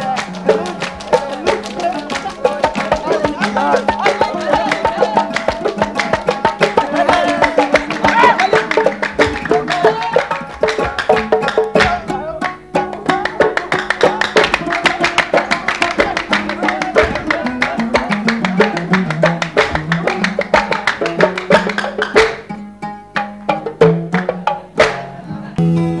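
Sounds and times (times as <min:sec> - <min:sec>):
hand-clapping: 0:00.0 - 0:22.6, 0:23.2 - 0:25.1
hand drums: 0:00.0 - 0:26.0.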